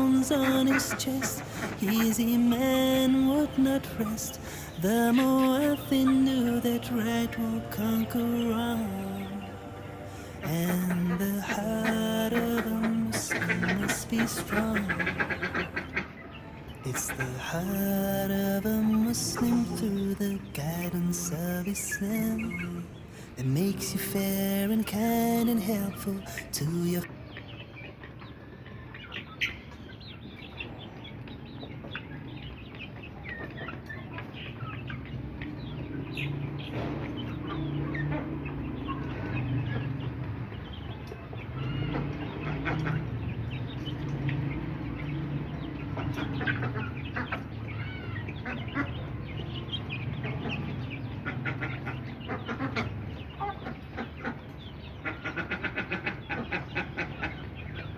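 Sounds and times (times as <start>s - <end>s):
ducks quacking and chirping: 0.0s - 57.9s.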